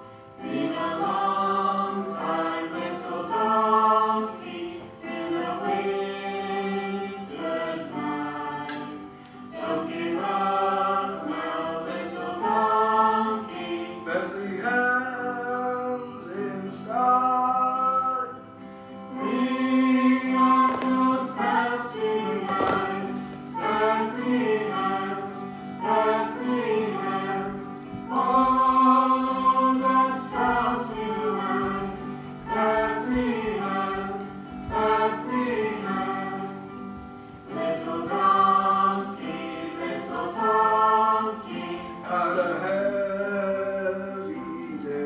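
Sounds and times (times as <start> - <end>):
choir singing a carol: 0.0 - 45.0
musical backing: 0.0 - 45.0.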